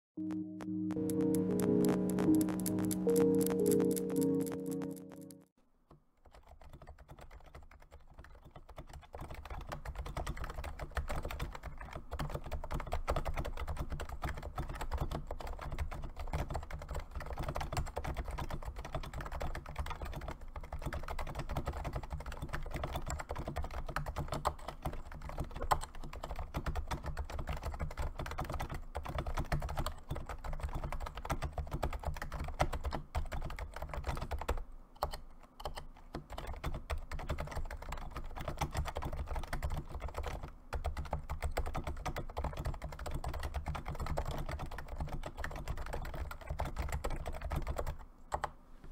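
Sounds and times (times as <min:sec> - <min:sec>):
fast keyboard typing: 0:00.2 - 0:05.5, 0:06.2 - 0:48.6.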